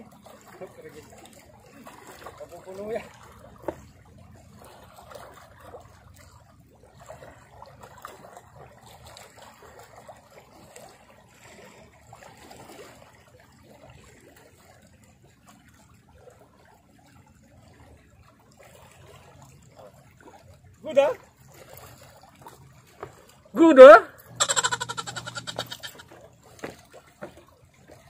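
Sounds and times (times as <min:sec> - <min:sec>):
seawater lapping among rocks: 0:00.0 - 0:28.0.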